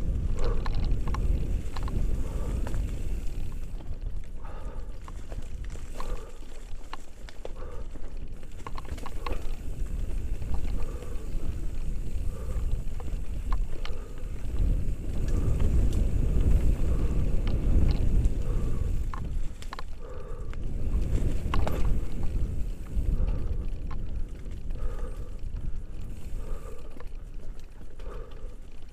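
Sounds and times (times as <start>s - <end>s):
wind on microphone: 0.0s - 28.6s
bike clicking and rattling: 0.0s - 28.9s.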